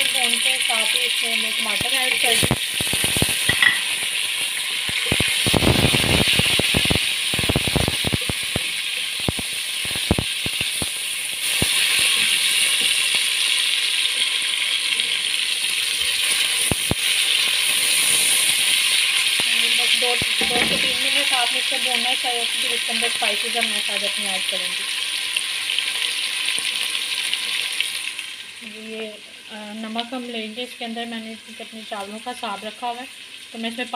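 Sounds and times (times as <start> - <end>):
vegetables sizzling in oil: 0.0 - 33.9.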